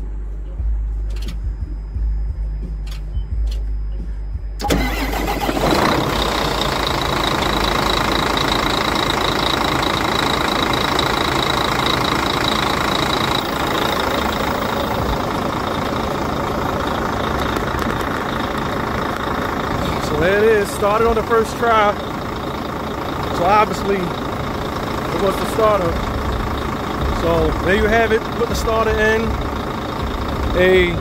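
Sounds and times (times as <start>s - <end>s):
high steady whine: 0.0s - 31.0s
diesel engine starting and idling: 4.5s - 31.0s.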